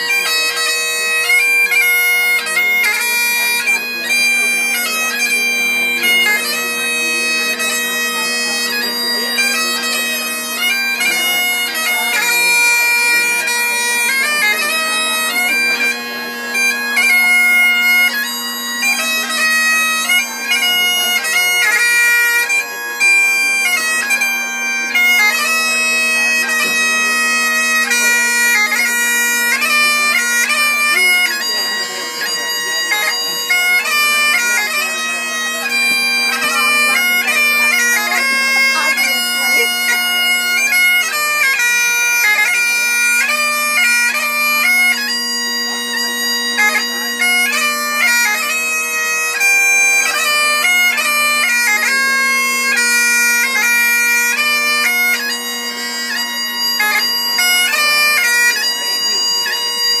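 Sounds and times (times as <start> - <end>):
bagpipes playing: 0.0 - 60.0.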